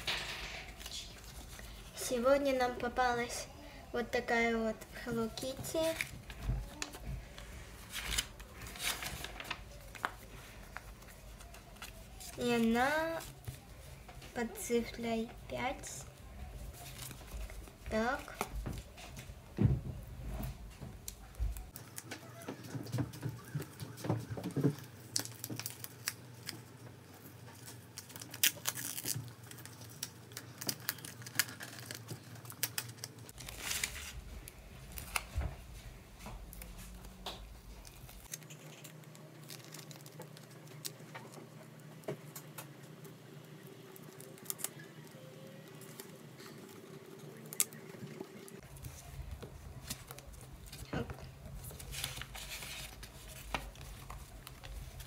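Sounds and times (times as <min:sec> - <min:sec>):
paper rustling and crinkling: 0:00.0 - 0:03.2, 0:05.0 - 0:19.4, 0:20.2 - 0:42.9, 0:43.6 - 0:55.0.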